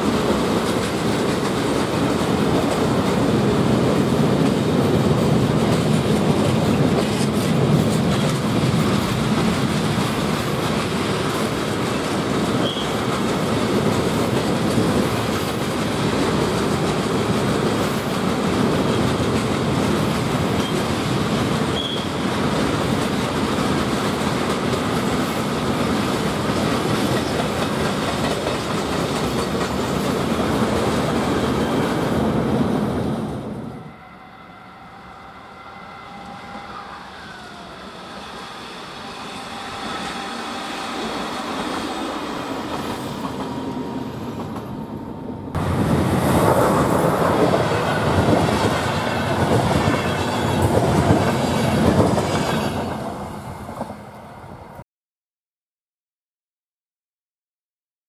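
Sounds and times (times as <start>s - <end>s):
diesel railcar engine hum: 0.0s - 54.8s
freight train wheels rumbling: 0.0s - 54.8s.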